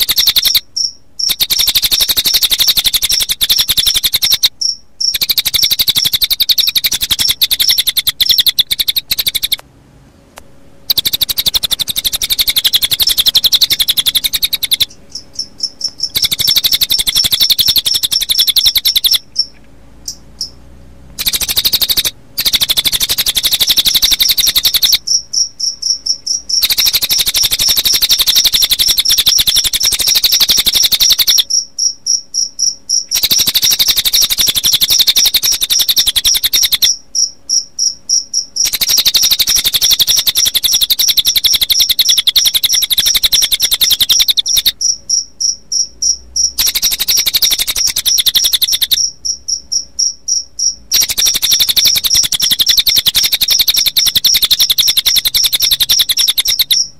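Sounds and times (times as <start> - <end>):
bird song trill: 0.0 - 9.6, 10.8 - 56.9
crickets chirping: 0.0 - 9.6, 10.8 - 56.9.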